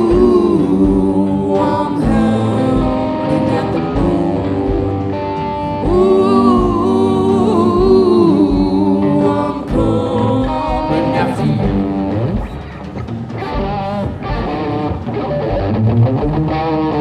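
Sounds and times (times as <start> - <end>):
wordless sung notes: 0.0 - 15.6
blues-rock band playing: 0.0 - 17.0.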